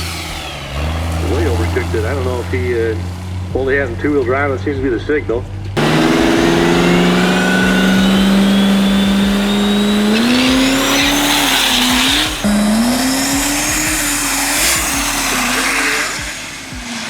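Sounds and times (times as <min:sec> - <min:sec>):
diesel truck engine revving: 0:00.0 - 0:17.0
high turbo whine: 0:00.0 - 0:17.0.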